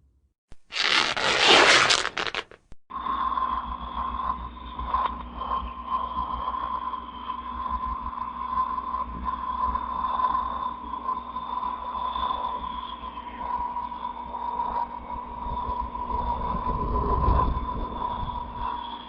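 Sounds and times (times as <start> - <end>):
dark drone: 2.9 - 19.0.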